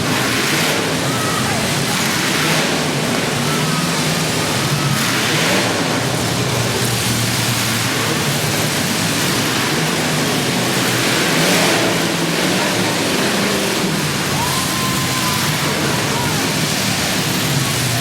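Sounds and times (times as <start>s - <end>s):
many car engines revving: 0.0s - 18.0s.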